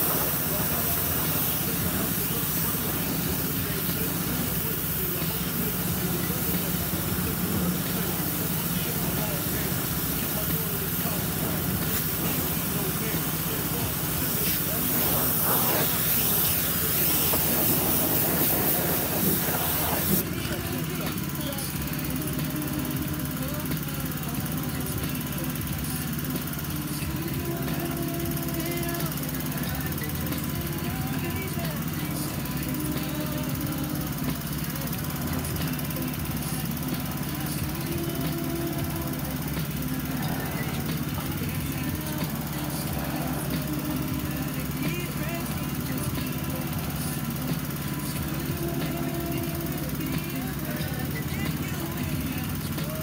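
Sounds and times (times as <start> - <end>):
hiss: 0.0 - 20.2, 25.1 - 53.0
motor humming: 0.0 - 53.0
small engine running: 0.0 - 53.0.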